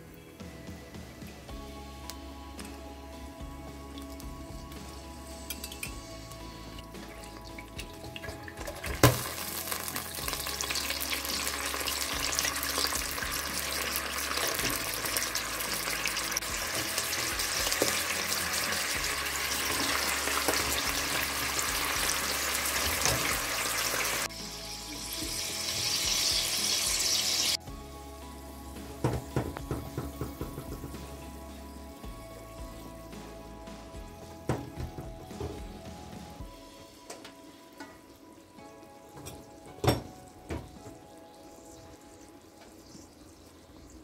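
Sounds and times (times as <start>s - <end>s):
chicken sizzling in hot oil: 3.4s - 35.5s, 36.5s - 44.0s.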